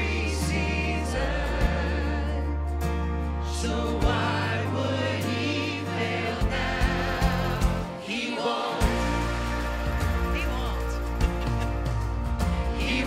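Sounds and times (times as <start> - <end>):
instrumental backing with bass: 0.0 - 8.0, 8.8 - 13.0
group singing worship song: 0.0 - 13.0.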